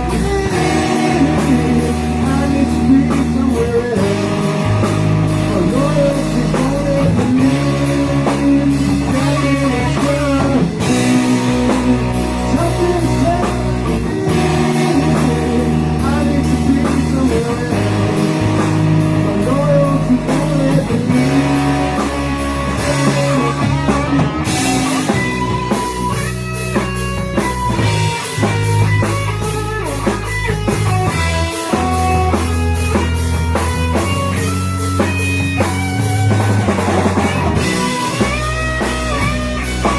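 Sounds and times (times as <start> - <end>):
rock band playing live: 0.0 - 39.9
sustained electric guitar line: 0.0 - 39.9.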